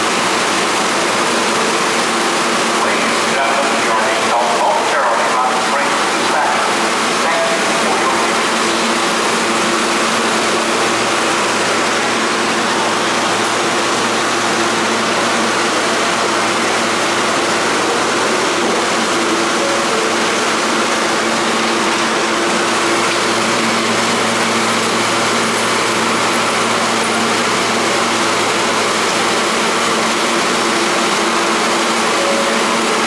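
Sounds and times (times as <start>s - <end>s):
train equipment humming: 1.3s - 33.0s.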